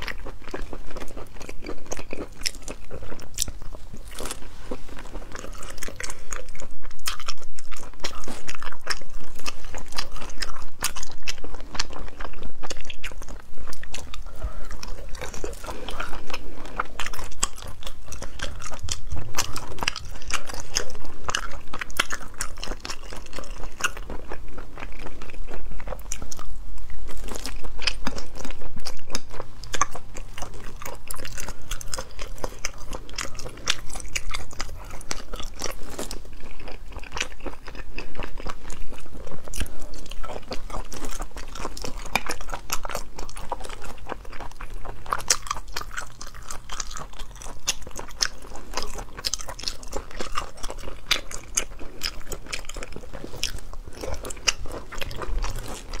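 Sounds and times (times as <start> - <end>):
person chewing: 0.0 - 56.0.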